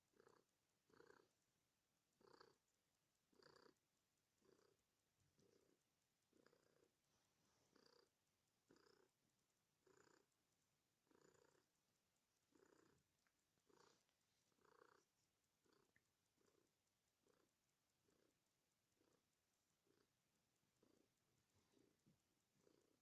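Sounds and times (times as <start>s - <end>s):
cat purring: 0.0s - 1.4s, 2.1s - 23.0s.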